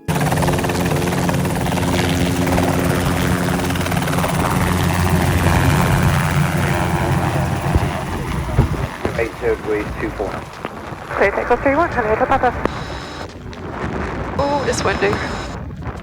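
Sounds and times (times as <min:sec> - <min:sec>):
steady hum: 0:00.0 - 0:13.4, 0:14.4 - 0:15.6
helicopter rotor and engine: 0:00.0 - 0:15.6.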